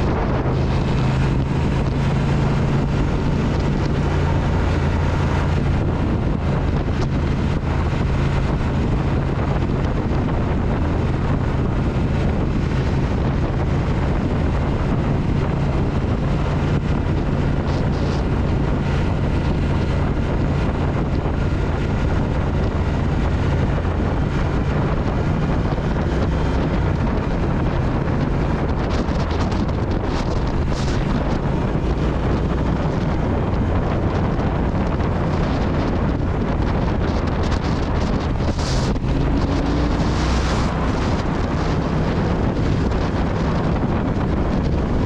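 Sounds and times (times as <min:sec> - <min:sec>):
motorcycle engine running: 0:00.0 - 0:45.0
wind noise on microphone: 0:00.0 - 0:45.0.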